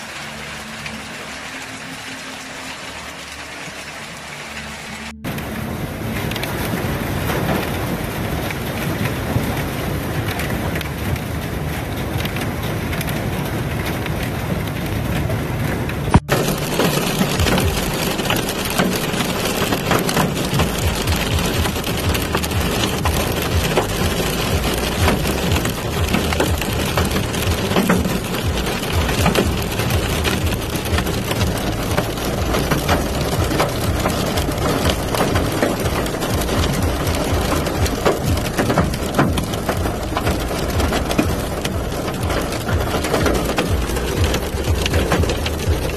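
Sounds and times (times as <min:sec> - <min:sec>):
hail and rain pelting down: 0:00.0 - 0:45.9.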